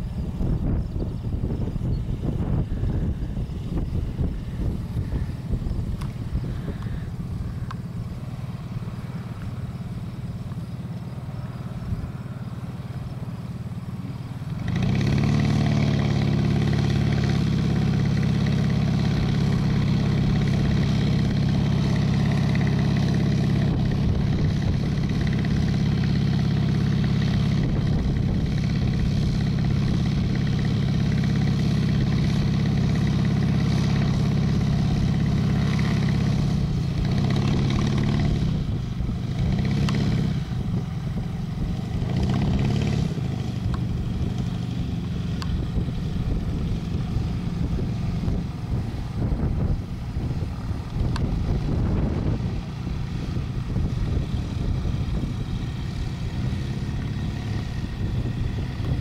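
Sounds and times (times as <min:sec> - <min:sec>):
light aircraft engine revving: 0:00.0 - 0:59.0.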